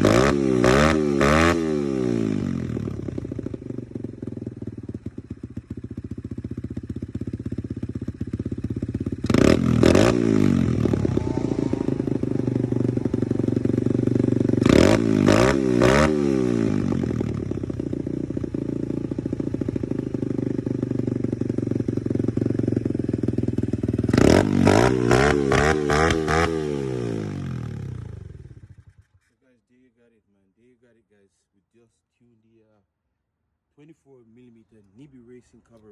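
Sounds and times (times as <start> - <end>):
dirt bike engine idling and revving: 0.0 - 29.3.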